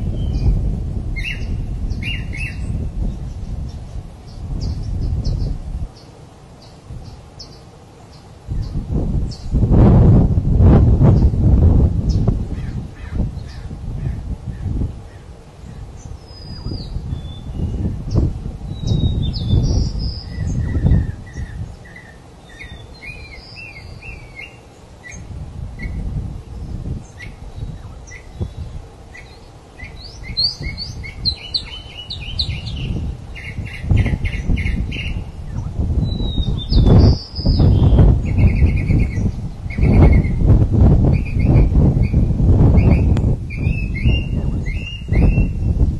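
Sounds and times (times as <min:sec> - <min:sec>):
small birds chirping: 0:00.0 - 0:09.6, 0:11.1 - 0:40.5, 0:41.1 - 0:45.9.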